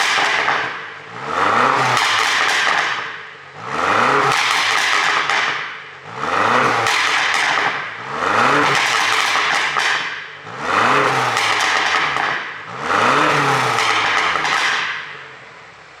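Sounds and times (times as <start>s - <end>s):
exhaust crackling pops: 0.0s - 15.6s
car engine revving: 0.0s - 16.0s.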